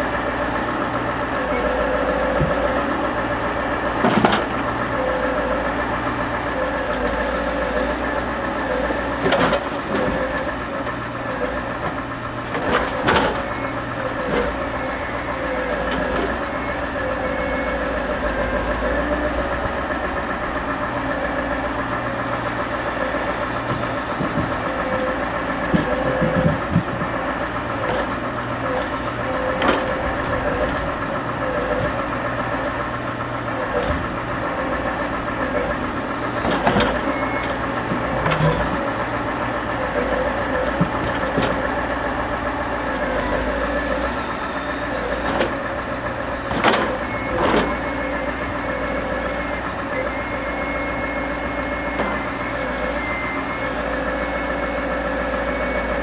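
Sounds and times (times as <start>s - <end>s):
diesel truck engine running: 0.0s - 56.0s
hydraulic whine: 0.0s - 56.0s.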